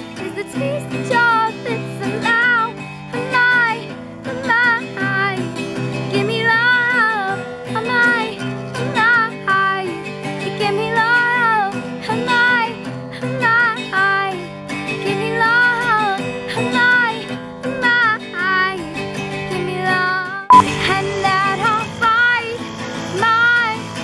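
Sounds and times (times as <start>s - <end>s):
girl singing: 0.0s - 5.4s, 6.1s - 23.8s
strummed acoustic guitar: 0.0s - 24.0s.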